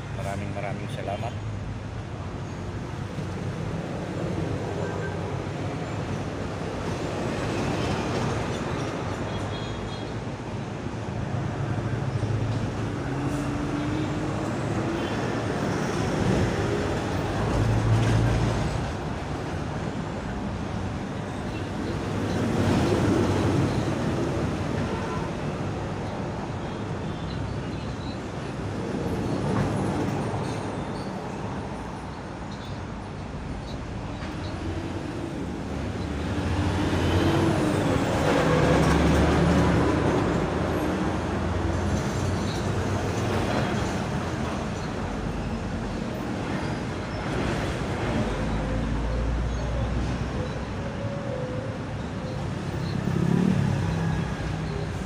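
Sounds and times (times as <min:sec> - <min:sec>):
heavy vehicle engines: 0:00.0 - 0:55.0.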